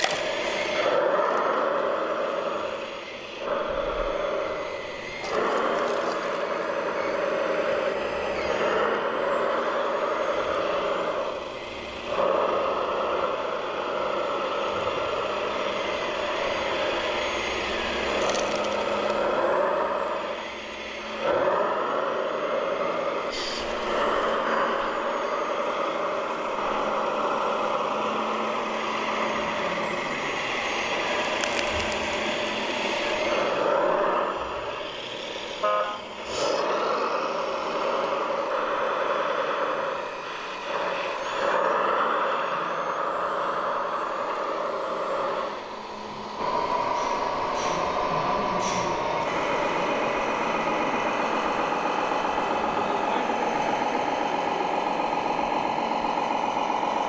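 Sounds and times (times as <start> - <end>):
simulated truck engine drone: 0.0 - 57.0.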